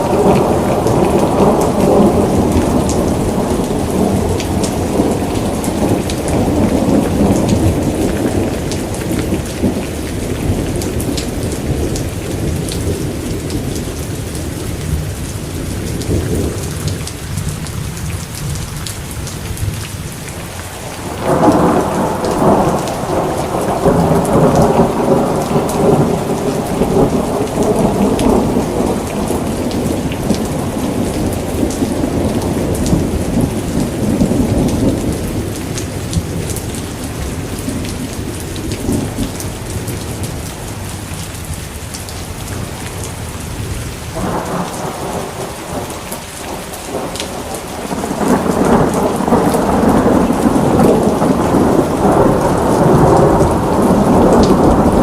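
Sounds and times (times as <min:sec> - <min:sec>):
rolling thunder: 0:00.0 - 0:17.6, 0:20.9 - 0:40.5, 0:43.6 - 0:55.0
heavy rain: 0:00.0 - 0:55.0.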